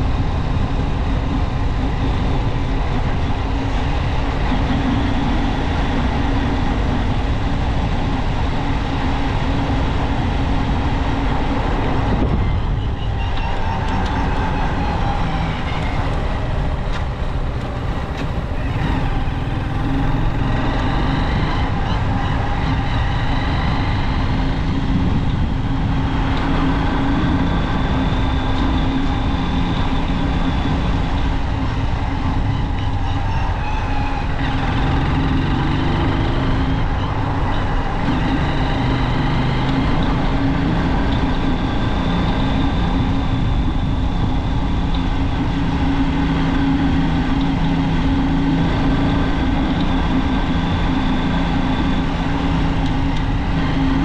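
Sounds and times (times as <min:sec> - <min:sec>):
wind and road noise: 0:00.0 - 0:54.0
motorcycle engine revving: 0:01.8 - 0:54.0.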